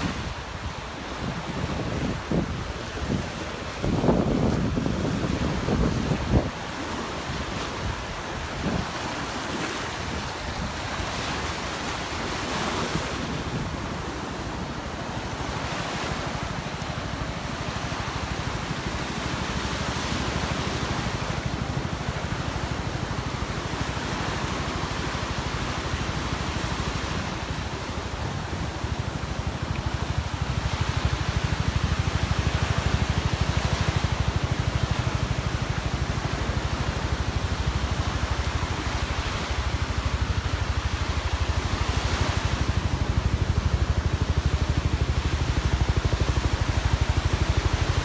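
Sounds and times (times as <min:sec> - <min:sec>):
ocean surf washing onto beach: 0:00.0 - 0:48.0
wind rumbling on microphone: 0:00.0 - 0:48.0.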